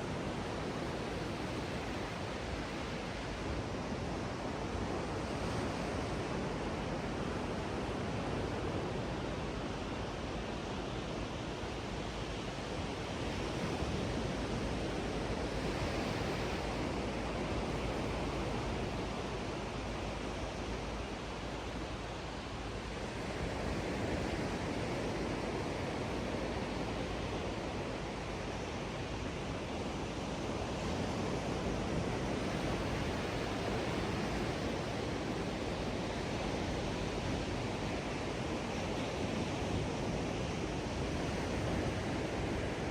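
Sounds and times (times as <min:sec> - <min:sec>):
ocean waves washing ashore: 0:00.0 - 0:42.9.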